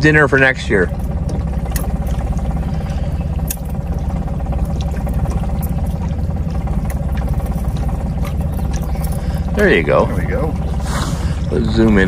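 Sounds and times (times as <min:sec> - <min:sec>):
outboard motor humming: 0:00.0 - 0:12.0
water splashing against boat: 0:00.0 - 0:12.0.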